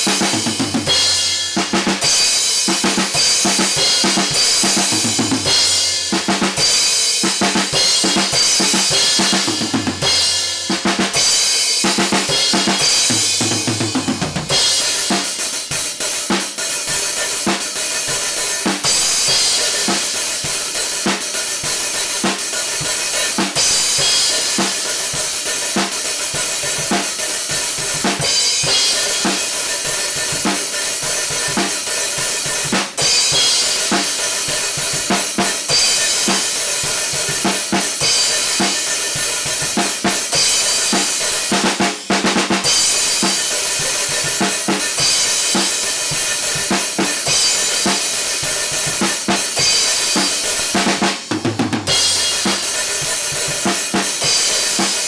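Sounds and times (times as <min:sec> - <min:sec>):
kick and snare drum beat: 0:00.0 - 0:55.0.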